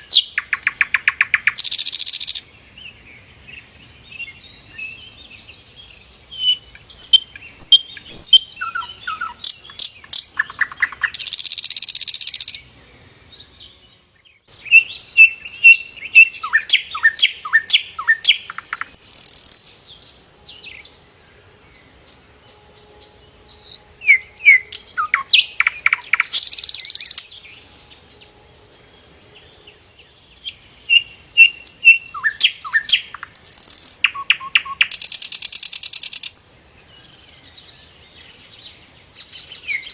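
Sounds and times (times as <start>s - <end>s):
flycatcher singing: 0.0s - 2.5s, 3.6s - 21.0s, 21.8s - 39.9s.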